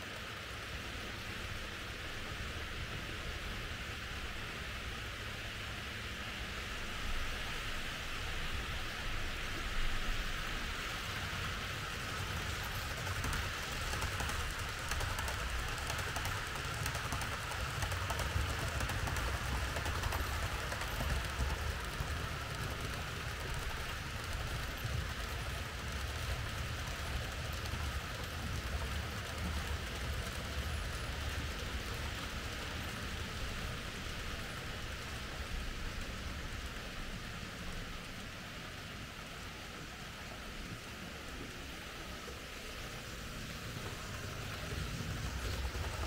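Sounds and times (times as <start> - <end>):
model train rolling rumble: 0.0 - 46.0.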